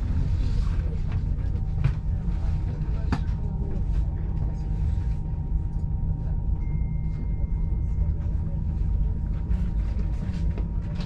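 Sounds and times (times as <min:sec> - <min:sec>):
faint hum tones: 0:00.0 - 0:11.0
train rolling rumble: 0:00.0 - 0:11.0.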